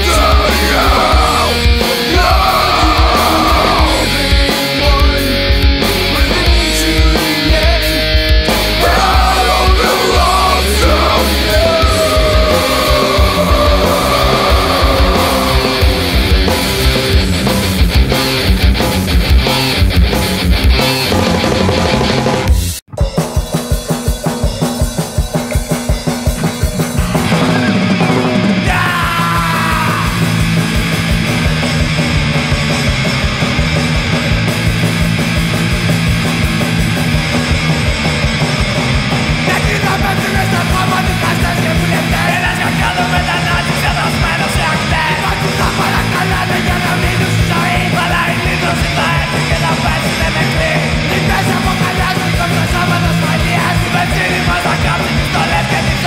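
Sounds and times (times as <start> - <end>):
punk rock song: 0.0 - 56.0.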